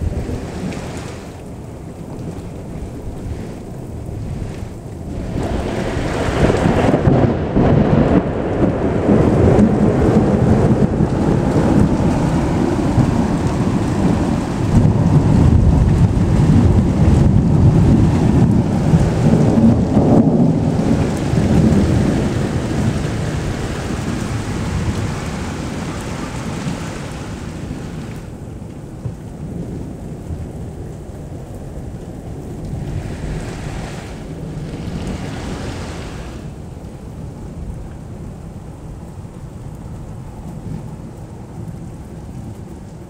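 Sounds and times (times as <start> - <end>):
rolling thunder: 0.0 - 42.0
steady rain: 0.0 - 43.0.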